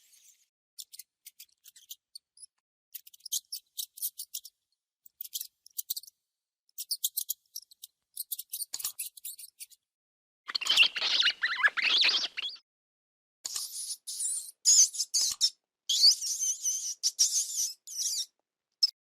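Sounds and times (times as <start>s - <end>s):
mouse squeaking: 0.1s - 6.2s, 6.8s - 9.8s, 10.5s - 12.6s, 13.4s - 19.0s.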